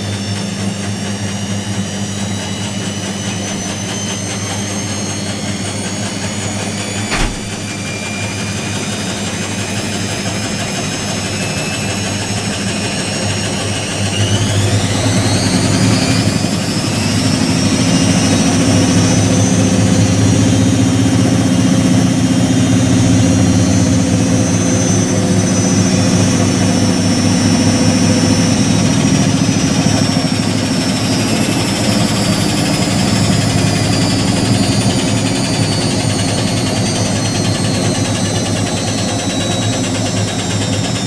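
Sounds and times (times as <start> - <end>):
washing machine drone: 0.0 - 41.0.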